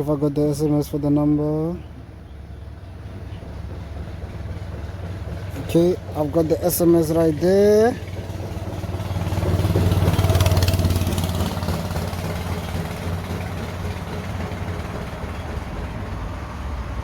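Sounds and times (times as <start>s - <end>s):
steady traffic hum: 0.0s - 17.0s
vehicle engine hum: 0.0s - 17.0s.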